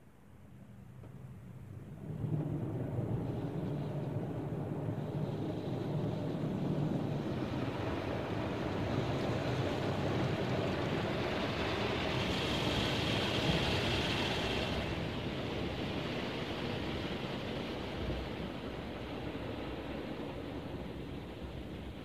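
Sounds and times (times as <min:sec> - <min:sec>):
car wash machinery running: 0:01.8 - 0:22.0.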